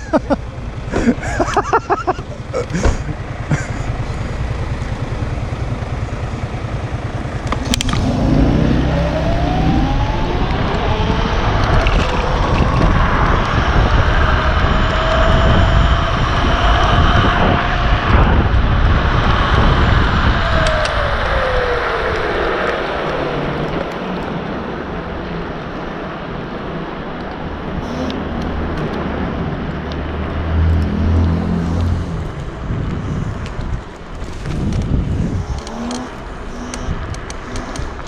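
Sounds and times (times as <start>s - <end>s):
vehicle accelerating: 0.0s - 24.8s, 27.7s - 38.0s
wind and road noise: 0.0s - 38.0s
rising whine: 1.5s - 25.3s, 27.7s - 38.0s.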